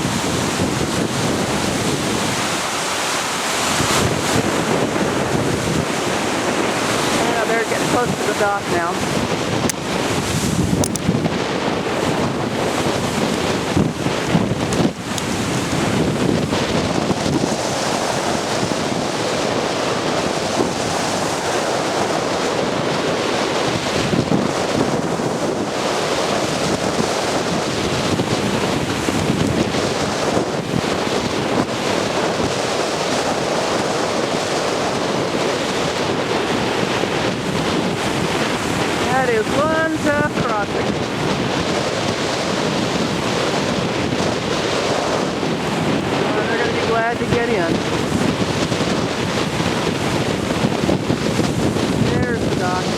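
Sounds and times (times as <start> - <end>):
waves washing in: 0.0 - 52.9
wind blowing across microphone: 0.0 - 52.9.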